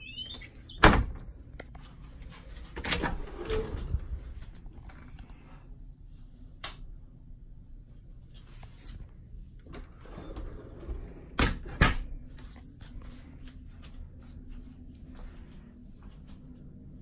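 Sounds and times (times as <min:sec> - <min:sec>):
steady low hum: 0:01.0 - 0:17.0.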